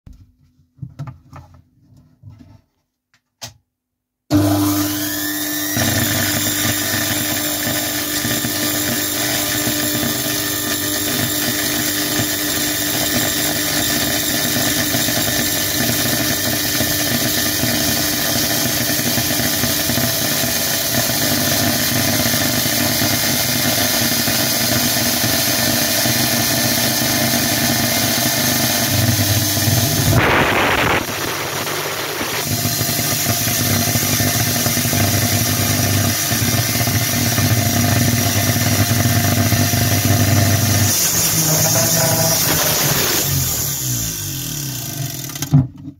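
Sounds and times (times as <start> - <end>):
electric motor spinning up and running: 4.3 - 45.6.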